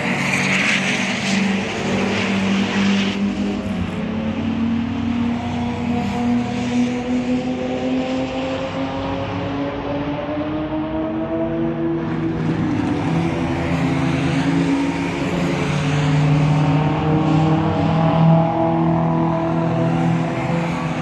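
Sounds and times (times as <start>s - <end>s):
race car engines passing: 0.0s - 21.0s.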